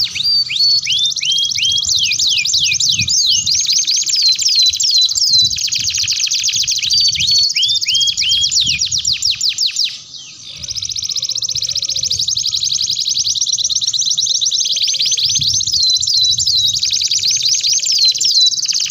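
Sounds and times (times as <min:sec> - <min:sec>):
canary song with whistles and trills: 0:00.0 - 0:18.9.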